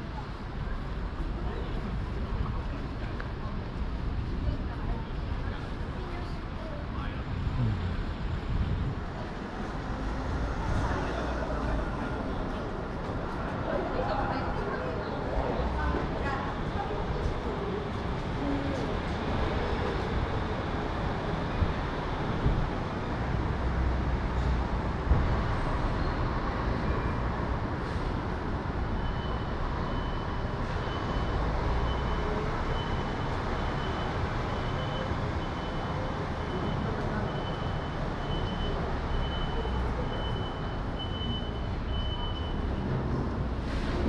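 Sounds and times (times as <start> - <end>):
hubbub of voices: 0.0 - 44.0
traffic rumble: 0.0 - 44.0.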